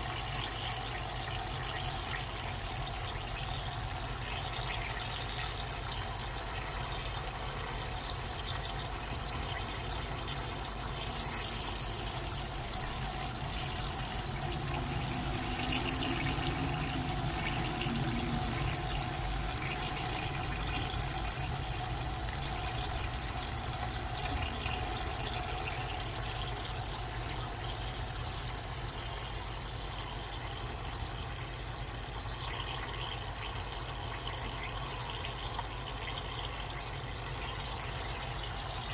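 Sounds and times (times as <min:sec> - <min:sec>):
dry ice bubbling hiss: 0:00.0 - 0:31.4.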